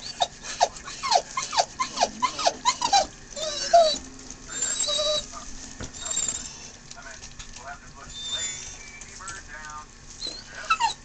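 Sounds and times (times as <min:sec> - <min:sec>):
puppies whimpering and squealing: 0:00.0 - 0:07.0, 0:07.6 - 0:09.4, 0:10.0 - 0:11.0
puppies whining: 0:00.0 - 0:11.0.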